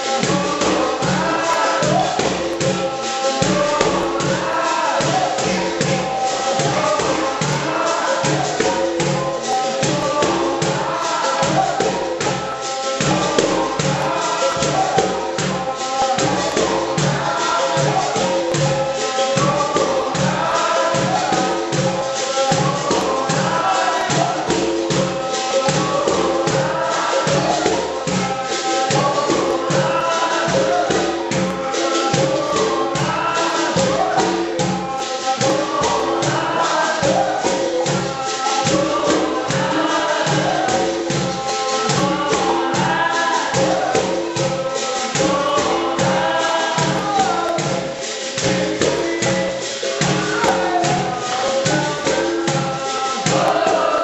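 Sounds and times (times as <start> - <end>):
berimbaus and pandeiro beat: 0.0 - 54.0
group singing: 0.0 - 54.0.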